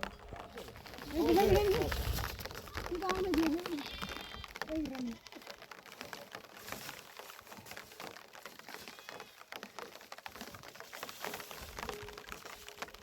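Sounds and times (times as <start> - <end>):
pattering clicks and taps: 0.0 - 13.0.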